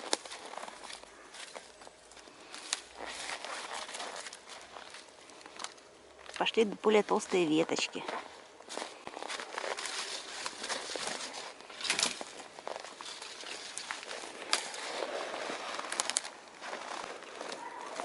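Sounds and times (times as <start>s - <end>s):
twigs popping and snapping: 0.0s - 6.6s, 8.7s - 18.0s
campfire crackling: 0.0s - 7.1s, 8.0s - 18.0s.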